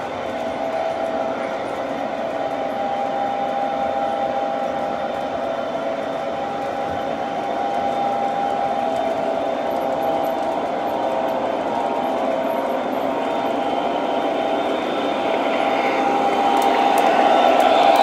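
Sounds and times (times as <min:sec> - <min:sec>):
model train motors whining: 0:00.0 - 0:18.0
wheels rumbling on rail: 0:00.0 - 0:18.0.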